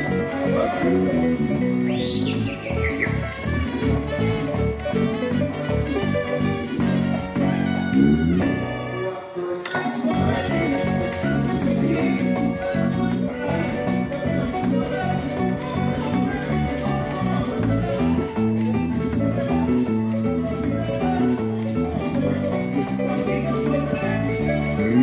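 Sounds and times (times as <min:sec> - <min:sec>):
fast percussion rhythm: 0:00.0 - 0:08.8, 0:10.0 - 0:25.0
electric bass line: 0:00.0 - 0:09.1, 0:10.1 - 0:25.0
latin band playing: 0:00.0 - 0:25.0.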